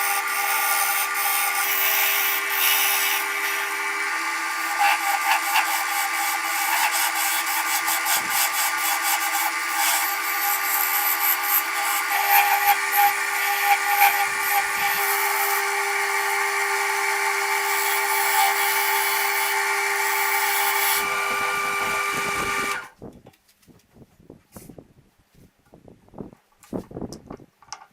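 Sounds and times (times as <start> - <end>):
tool scraping on spinning wood: 0.0 - 22.8
lathe motor hum: 0.0 - 22.9.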